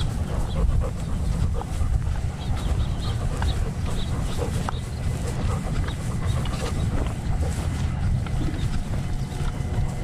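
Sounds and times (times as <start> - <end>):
dog body movement rumble: 0.0 - 10.0
dog footsteps on grass: 0.0 - 10.0
wind on microphone: 0.0 - 10.0.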